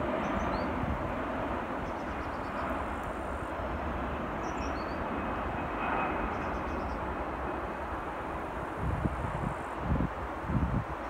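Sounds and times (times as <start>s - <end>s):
jet airliner engine rumble: 0.0s - 11.0s.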